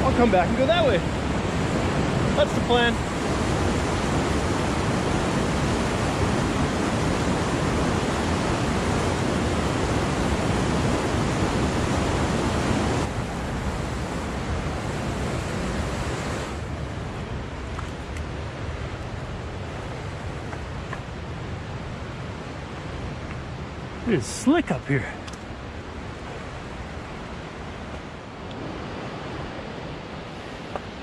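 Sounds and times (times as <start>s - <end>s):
rushing water and waterfall: 0.0s - 31.0s.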